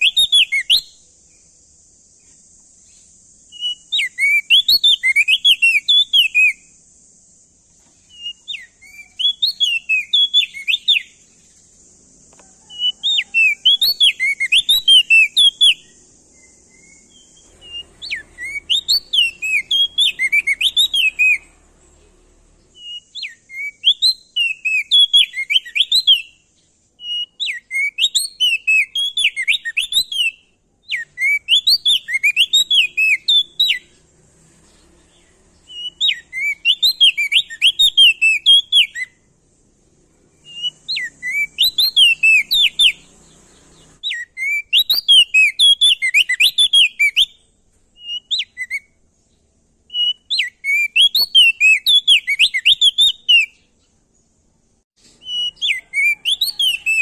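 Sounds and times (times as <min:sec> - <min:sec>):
bird singing whistled phrases: 0:00.0 - 0:01.1, 0:02.8 - 0:06.8, 0:08.0 - 0:11.2, 0:12.6 - 0:21.7, 0:22.6 - 0:34.0, 0:35.6 - 0:39.2, 0:40.4 - 0:49.0, 0:49.9 - 0:53.8, 0:55.2 - 0:57.0.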